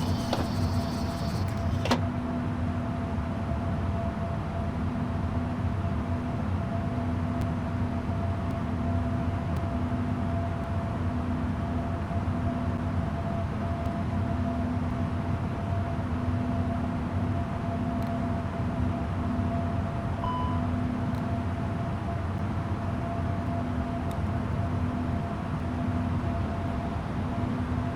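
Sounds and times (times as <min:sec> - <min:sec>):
airliner engines running: 0:00.0 - 0:27.9.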